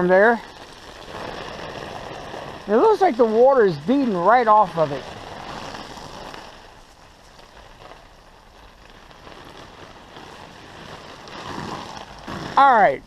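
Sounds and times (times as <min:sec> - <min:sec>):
hose spray pattering on tent fabric: 0:00.0 - 0:13.0.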